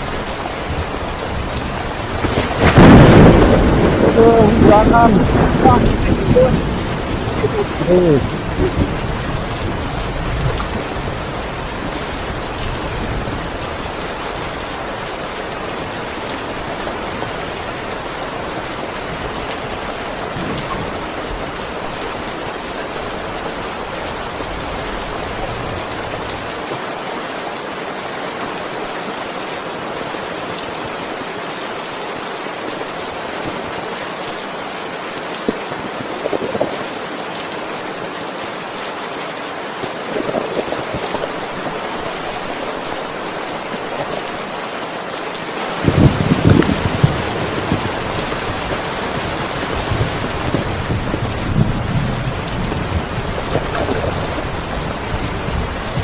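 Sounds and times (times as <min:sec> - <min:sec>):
heavy rain hissing: 0:00.0 - 0:56.0.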